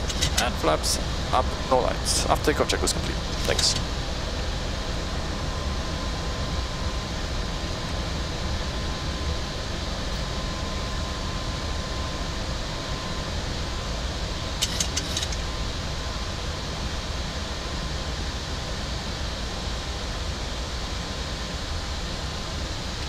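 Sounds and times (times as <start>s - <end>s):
airflow and engine noise: 0.0s - 23.0s
faint steady whine: 0.0s - 23.0s.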